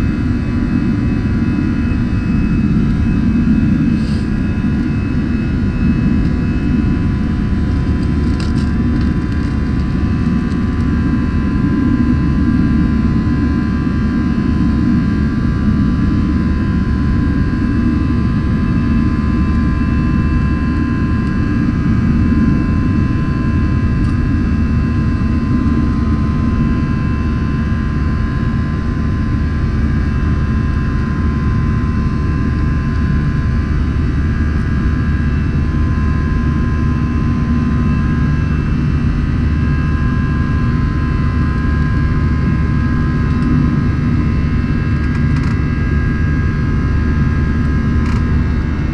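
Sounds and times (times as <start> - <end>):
jet engines roaring in cabin: 0.0 - 48.9.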